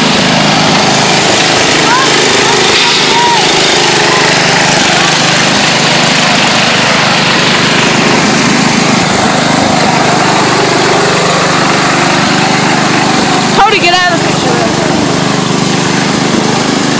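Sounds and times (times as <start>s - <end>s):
lawn mower engine running: 0.0s - 16.9s.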